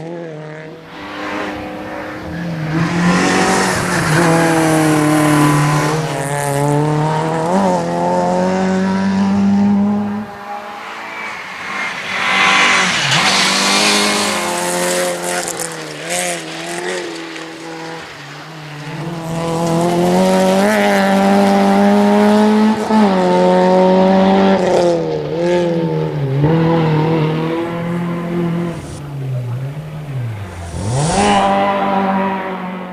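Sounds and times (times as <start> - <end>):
rally car engine at high revs: 0.0 - 32.9.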